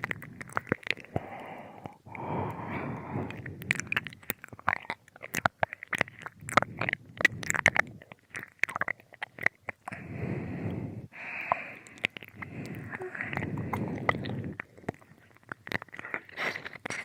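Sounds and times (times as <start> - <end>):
soft breaths: 0.0 - 4.7, 5.6 - 17.0
wet mouth clicks and licking: 0.0 - 17.0.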